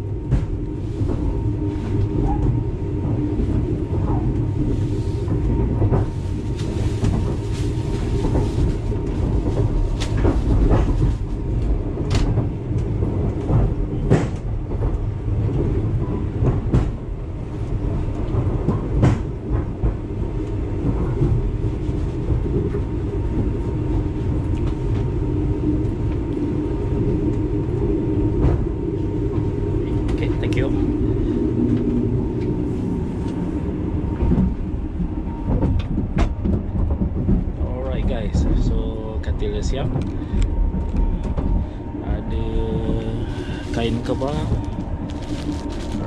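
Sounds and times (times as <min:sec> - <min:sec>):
train coach rumbling: 0:00.0 - 0:46.0.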